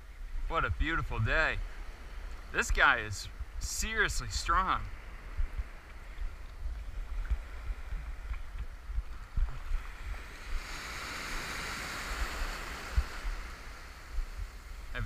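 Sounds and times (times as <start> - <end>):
wind on microphone: 0.0 - 15.0
shallow surf washing: 0.1 - 15.0.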